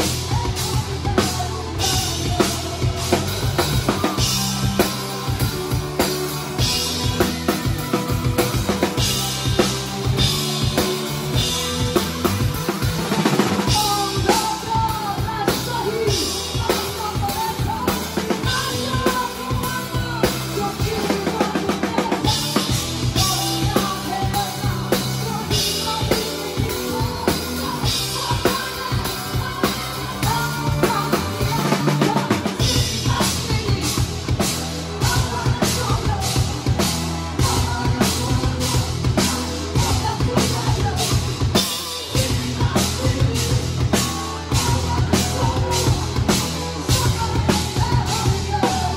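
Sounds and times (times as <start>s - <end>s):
bass drum: 0.0s - 48.9s
rock band playing: 0.0s - 48.9s.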